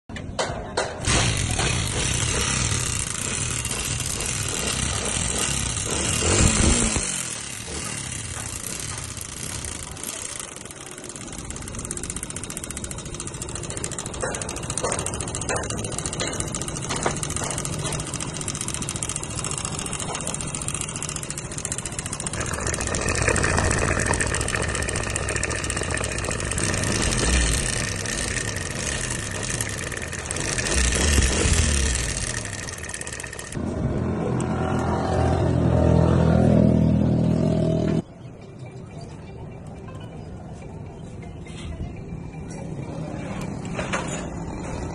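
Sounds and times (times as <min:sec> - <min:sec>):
motorcycle engine revving: 0:01.0 - 0:38.0.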